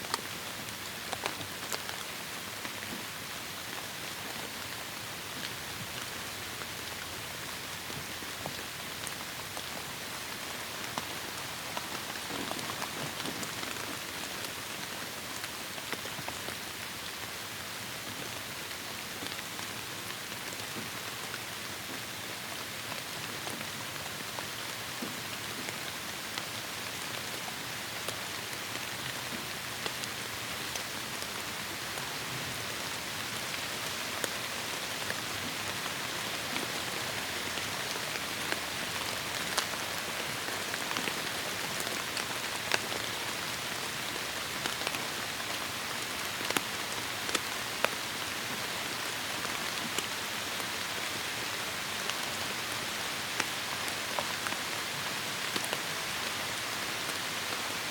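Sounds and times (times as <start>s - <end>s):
heavy rain on foliage: 0.0s - 57.9s.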